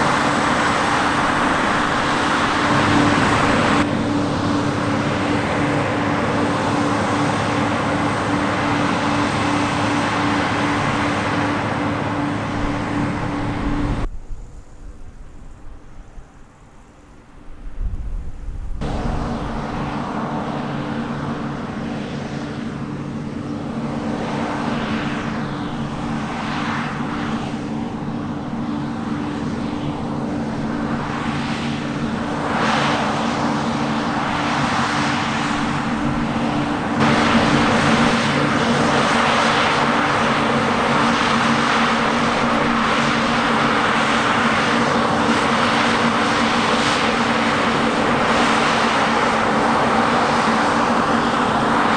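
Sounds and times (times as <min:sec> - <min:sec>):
diesel harvest machinery running: 0:00.0 - 0:14.1, 0:18.8 - 0:51.9.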